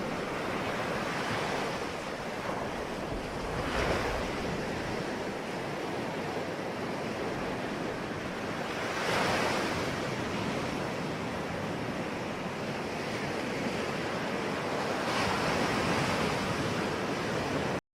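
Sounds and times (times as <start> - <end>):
ocean waves breaking on shore: 0.0 - 17.8.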